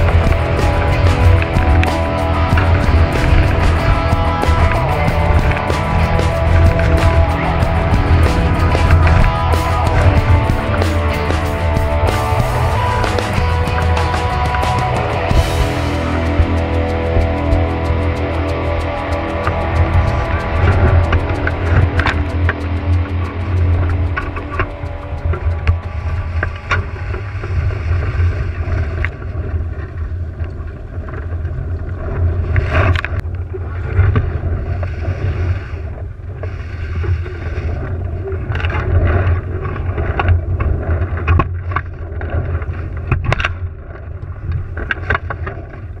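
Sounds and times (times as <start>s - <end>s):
water rushing along hull: 0.0s - 46.0s
wind buffeting microphone: 0.0s - 46.0s.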